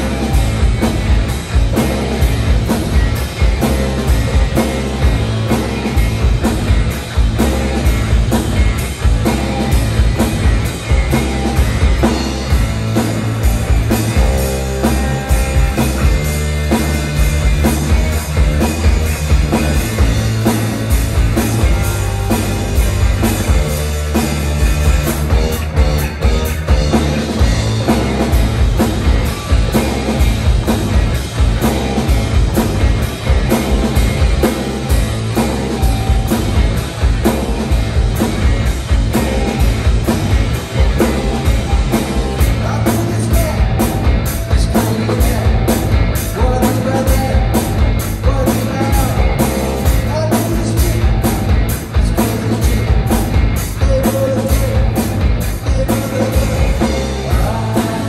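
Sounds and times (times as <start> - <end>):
distorted electric guitars: 0.0 - 58.0
drum kit beat: 0.0 - 58.0.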